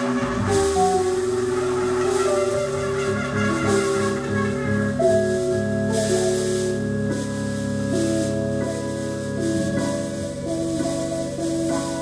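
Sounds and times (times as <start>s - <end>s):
drums with cymbal wash: 0.0s - 12.0s.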